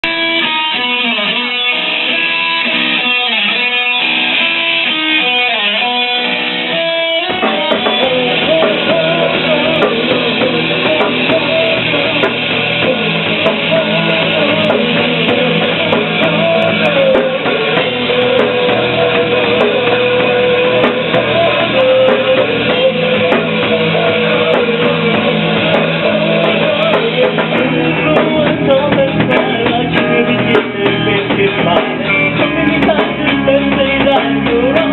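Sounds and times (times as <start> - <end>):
picked guitar notes: 0.0 - 34.9
rock band with drums: 0.0 - 34.9.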